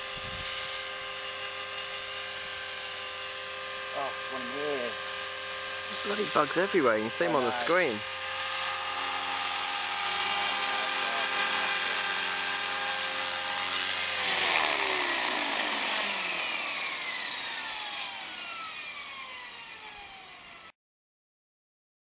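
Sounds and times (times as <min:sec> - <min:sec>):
rc helicopter rotor spinning: 0:00.0 - 0:20.7.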